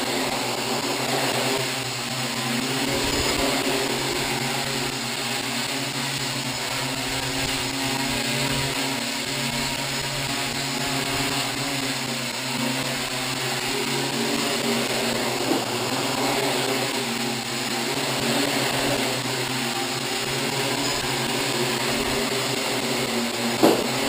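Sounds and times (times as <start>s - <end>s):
quadcopter propellers whirring: 0.0s - 24.0s.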